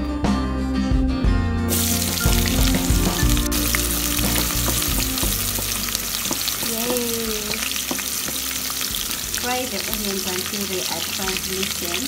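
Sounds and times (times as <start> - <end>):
soft guitar music: 0.0 - 12.0
oil popping: 1.7 - 12.0
onions sizzling in hot oil: 1.7 - 12.0
wooden spatula stirring: 2.1 - 12.0.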